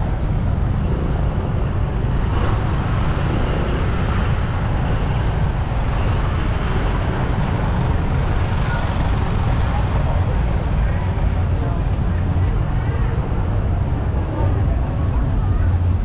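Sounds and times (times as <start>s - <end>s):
traffic noise with low rumble: 0.0s - 16.0s.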